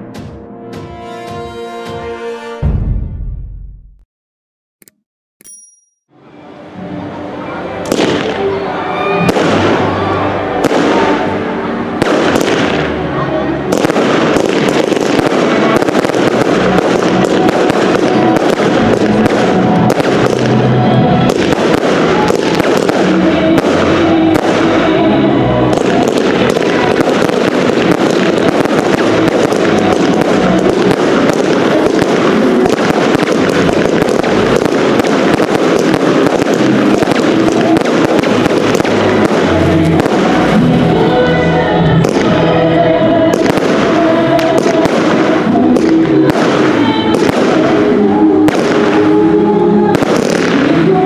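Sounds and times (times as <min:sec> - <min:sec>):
music playing: 0:00.0 - 0:03.2, 0:06.1 - 0:51.0
fireworks bursting and crackling: 0:07.9 - 0:08.4, 0:09.2 - 0:51.0.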